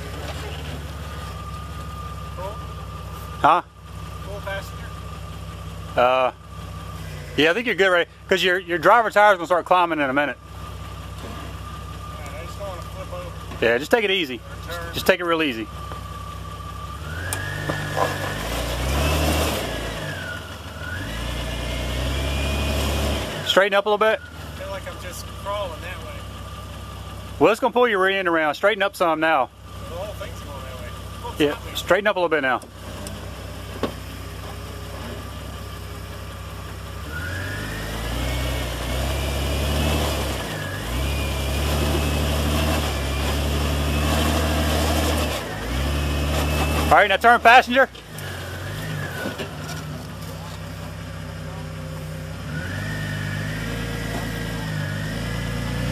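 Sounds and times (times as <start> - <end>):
drivetrain whine: 0.0 - 55.9
engine pulling under load: 0.0 - 55.9.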